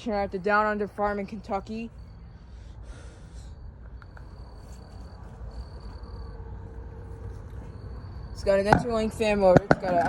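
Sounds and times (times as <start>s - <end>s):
low wind rumble: 0.0s - 10.0s
cricket trilling: 0.1s - 10.0s.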